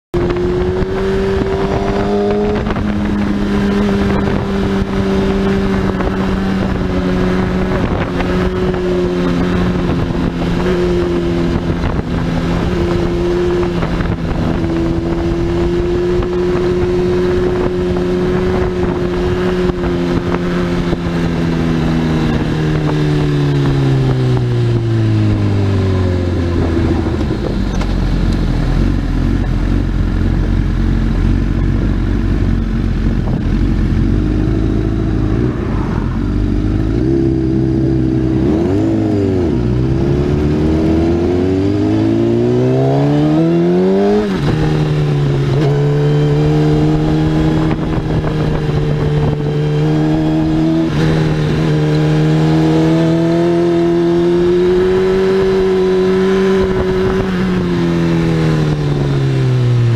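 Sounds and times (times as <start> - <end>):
motorcycle engine: 0.1 - 59.9
wind rushing: 0.2 - 29.1, 33.0 - 59.9.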